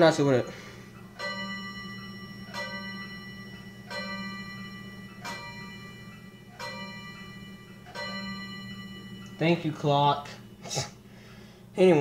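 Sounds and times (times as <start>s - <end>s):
clock chiming: 0.0s - 10.6s
steady low hum: 0.0s - 12.0s.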